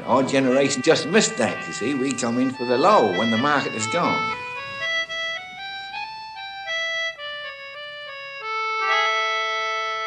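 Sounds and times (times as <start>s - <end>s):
free-reed instrument folk melody: 0.0s - 10.0s.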